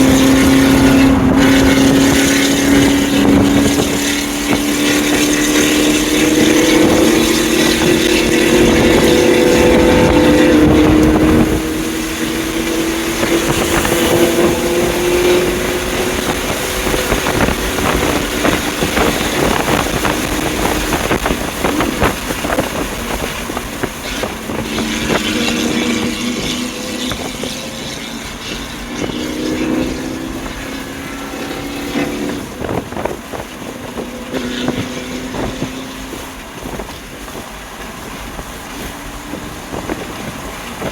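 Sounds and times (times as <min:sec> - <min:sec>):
car engine accelerating: 0:00.0 - 0:40.9
exhaust crackling: 0:00.0 - 0:40.9
road and wind noise: 0:00.0 - 0:40.9.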